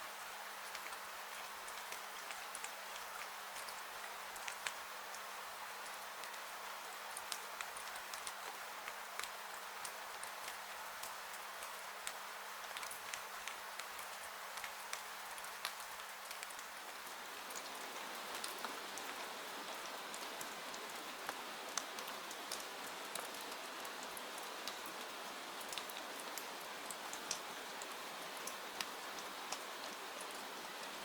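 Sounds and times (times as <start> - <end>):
steady rain falling: 0.0 - 31.0
raindrops ticking on surfaces: 0.1 - 31.0.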